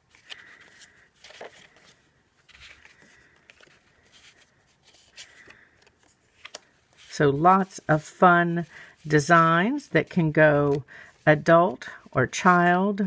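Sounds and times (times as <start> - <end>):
cards rustling and clicking: 0.0 - 12.9.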